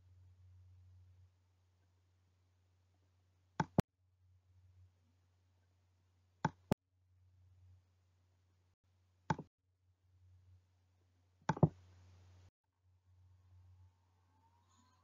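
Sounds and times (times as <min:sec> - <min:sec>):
faint low hum: 0:00.0 - 0:09.3, 0:09.9 - 0:15.0.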